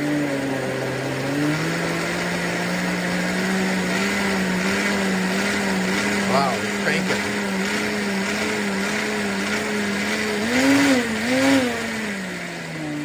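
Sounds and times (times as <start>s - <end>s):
blender motor whirring: 0.0s - 13.0s.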